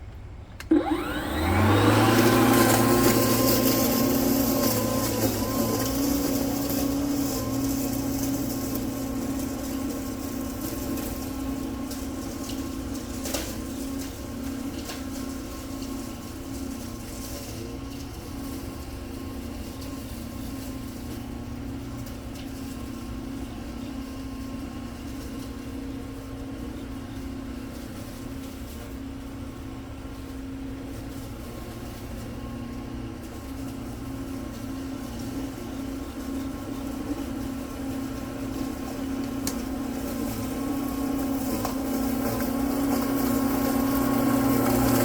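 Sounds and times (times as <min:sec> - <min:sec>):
electric lawn mower humming: 0:00.4 - 0:45.0.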